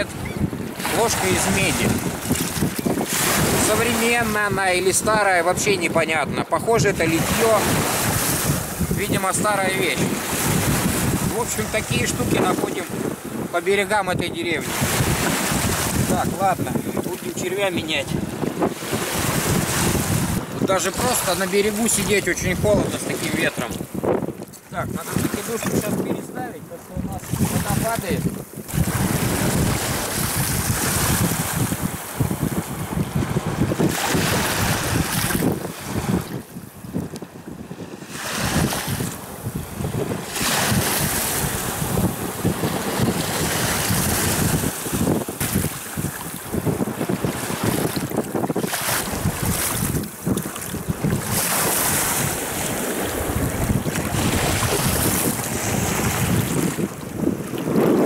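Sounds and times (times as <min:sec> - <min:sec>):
waves washing onto stony shore: 0:00.0 - 0:05.6, 0:06.8 - 0:36.4, 0:37.8 - 0:57.8
gusty wind buffeting microphone: 0:00.0 - 0:58.0.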